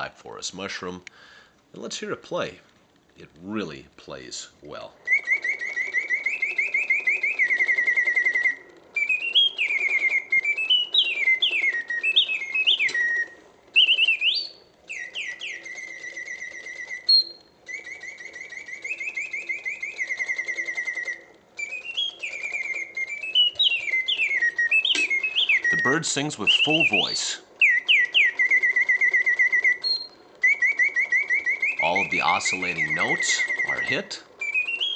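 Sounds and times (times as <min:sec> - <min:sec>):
faint mechanical whir: 0:00.0 - 0:34.9
mechanical bird warbling and whistling: 0:04.3 - 0:34.9.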